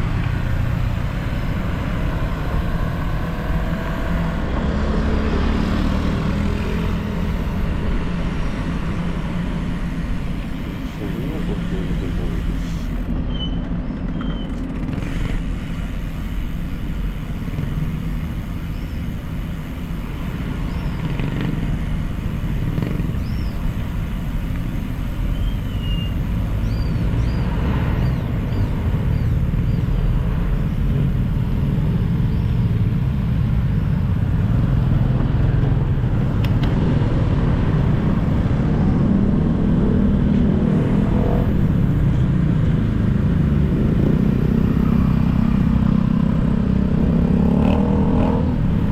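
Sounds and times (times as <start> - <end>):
traffic rumble: 0.0 - 48.9.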